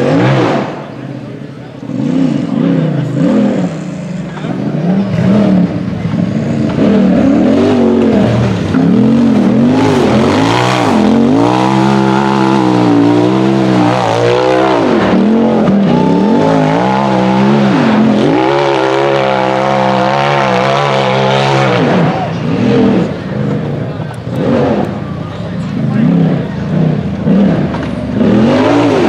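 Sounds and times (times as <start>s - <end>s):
buggy engine revving hard: 0.0s - 29.0s.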